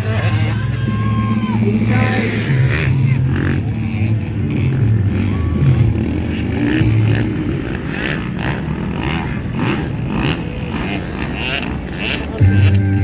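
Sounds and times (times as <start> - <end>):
dirt bike engines running: 0.0 - 13.0.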